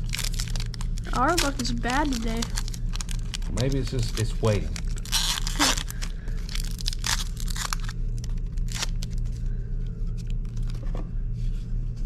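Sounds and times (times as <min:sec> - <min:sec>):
foil wrapper tearing and crinkling: 0:00.0 - 0:09.5, 0:10.2 - 0:10.8
steady low hum: 0:00.0 - 0:12.0.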